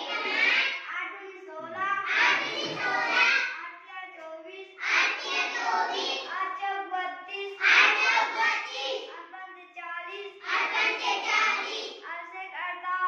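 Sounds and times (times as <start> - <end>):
child chanting sing-song: 0.0 - 13.0.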